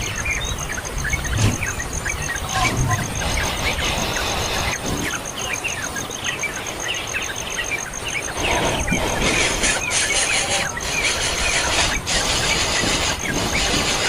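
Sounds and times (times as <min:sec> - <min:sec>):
small birds chirping: 0:00.0 - 0:14.0
steady hiss: 0:00.0 - 0:14.0.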